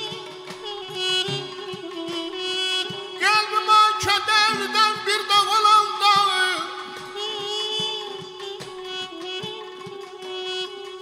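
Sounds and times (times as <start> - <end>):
double-reed pipe melody: 0.0 - 11.0.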